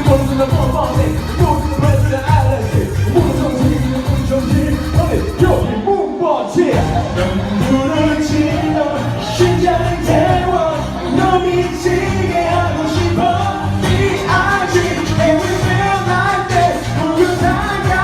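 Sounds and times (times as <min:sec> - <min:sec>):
band playing pop song: 0:00.0 - 0:18.0
person singing: 0:00.0 - 0:18.0.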